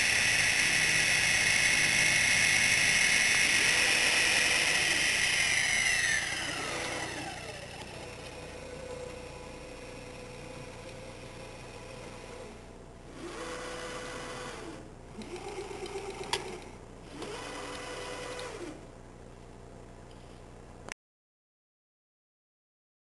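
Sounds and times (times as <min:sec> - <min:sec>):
machine axes whining: 0:00.0 - 0:18.8.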